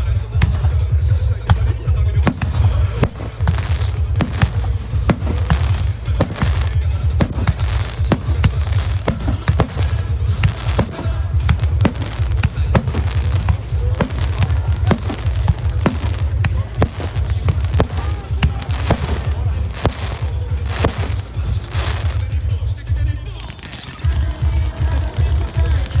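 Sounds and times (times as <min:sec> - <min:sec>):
firework shells bursting: 0:00.0 - 0:22.5
low booming rumble: 0:00.0 - 0:23.2.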